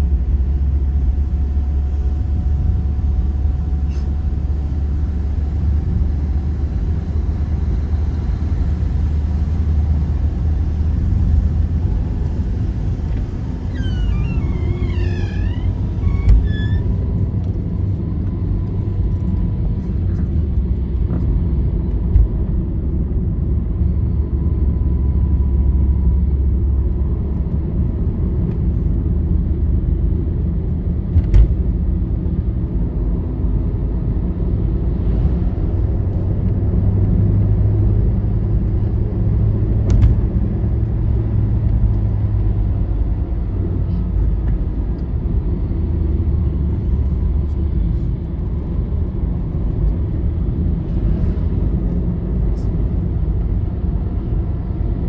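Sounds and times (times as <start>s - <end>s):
engine and tyres rumbling on road: 0.0s - 55.0s.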